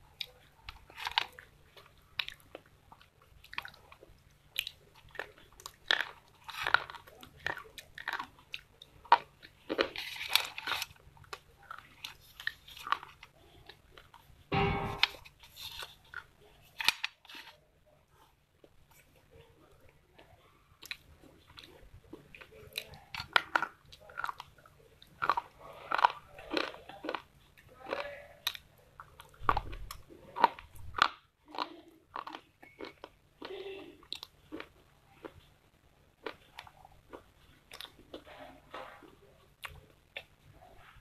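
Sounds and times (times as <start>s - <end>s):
person chewing: 0.0s - 14.4s, 15.0s - 35.5s, 36.2s - 40.9s.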